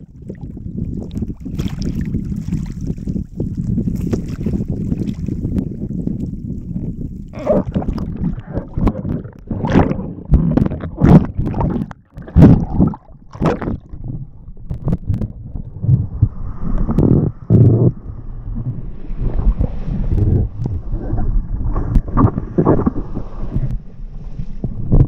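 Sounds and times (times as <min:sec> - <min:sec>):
water splashing and gurgling: 0:00.0 - 0:25.0
wind rumbling on microphone: 0:00.0 - 0:25.0.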